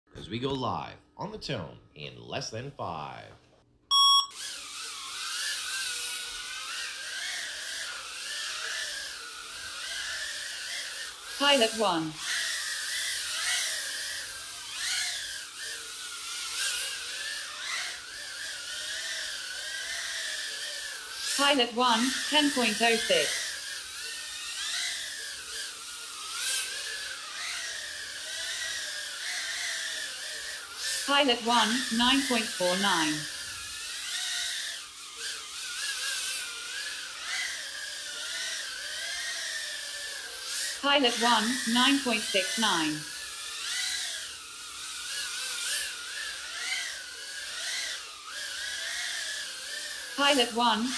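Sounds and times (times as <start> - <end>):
brushless motors whining: 4.0 - 50.9.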